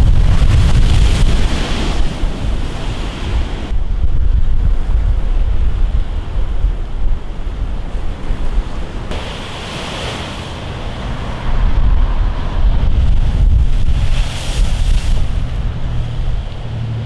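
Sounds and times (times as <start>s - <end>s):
sea surf breaking: 0.0s - 17.0s
wind buffeting microphone: 0.0s - 17.0s.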